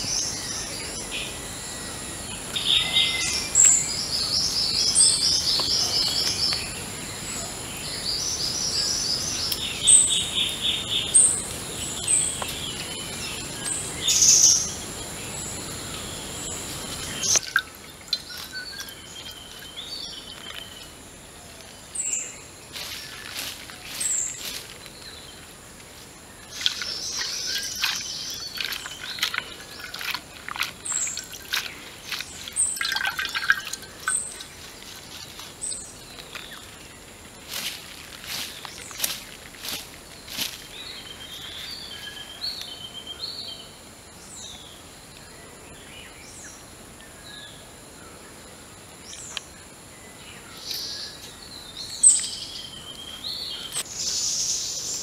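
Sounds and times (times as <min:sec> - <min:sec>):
birds chirping and trilling: 0:00.0 - 0:55.0
steady high-pitched whine: 0:00.0 - 0:55.0.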